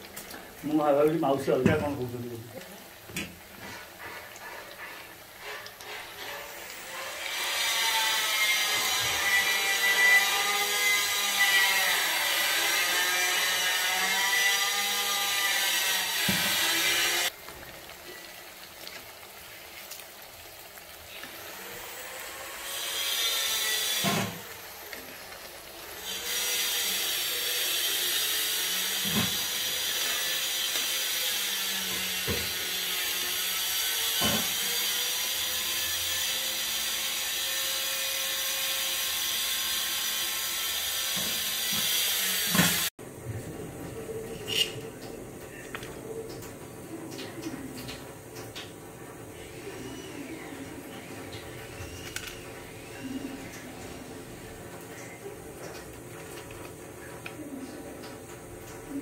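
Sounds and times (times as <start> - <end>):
vegetables deep-frying sizzle: 0.0 - 43.2, 44.0 - 59.0.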